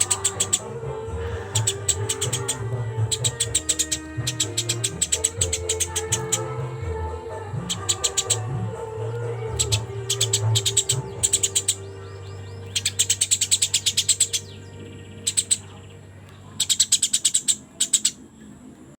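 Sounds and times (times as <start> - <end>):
sparrow chirping: 0.0 - 18.4
faint music: 0.0 - 19.0.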